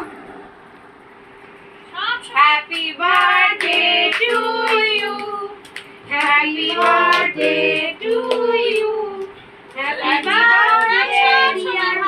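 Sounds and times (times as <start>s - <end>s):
child and woman singing: 2.2s - 12.0s.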